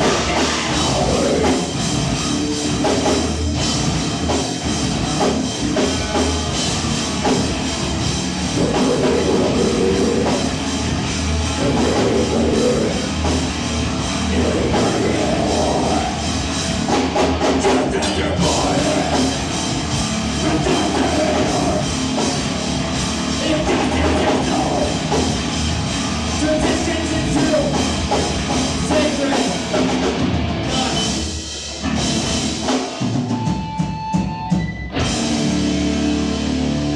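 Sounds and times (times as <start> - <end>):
live rock band playing: 0.0 - 36.9.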